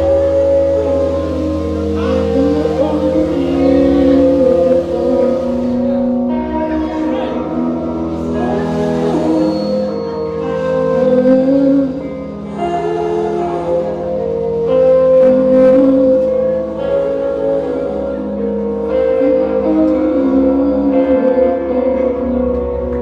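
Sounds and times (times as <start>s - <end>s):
live rock band ringing chords: 0.0s - 23.0s.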